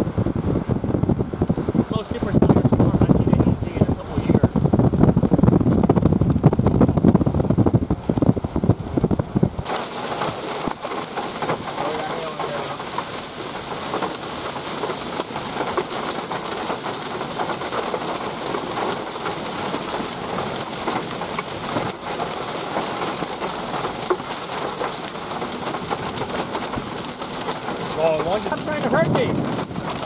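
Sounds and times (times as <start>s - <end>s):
heavy rain beating on a car: 0.0s - 30.0s.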